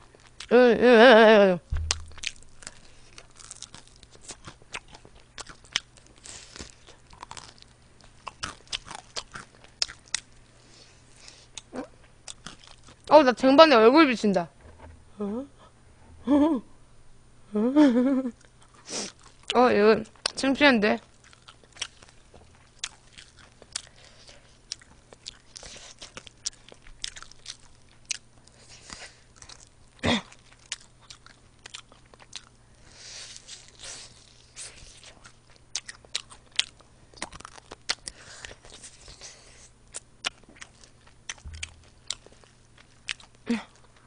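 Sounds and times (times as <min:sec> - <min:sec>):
chewing crispy chicken wings: 0:00.0 - 0:00.6, 0:01.9 - 0:13.1, 0:18.3 - 0:44.0.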